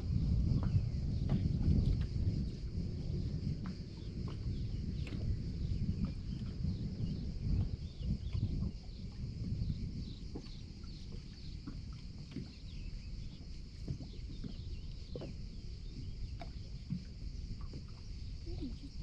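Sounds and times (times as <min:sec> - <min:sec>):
waves lapping against boat hull: 0:00.0 - 0:19.0
wind on water: 0:00.0 - 0:19.0.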